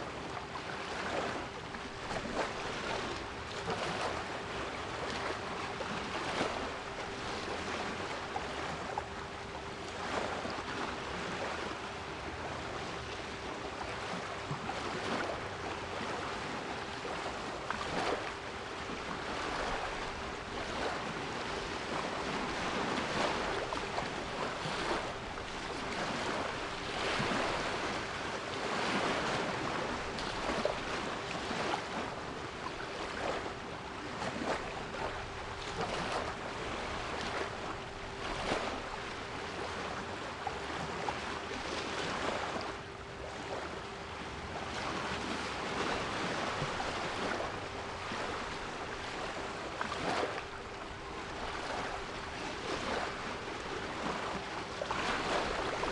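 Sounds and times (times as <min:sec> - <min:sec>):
sea waves breaking: 0:00.0 - 0:55.9.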